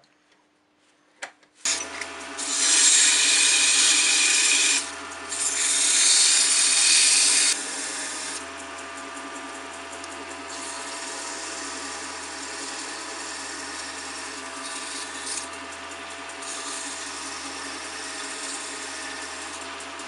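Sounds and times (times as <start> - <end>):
sandpaper rasping on spinning wood: 1.7 - 20.0
wood lathe motor humming: 1.7 - 20.0.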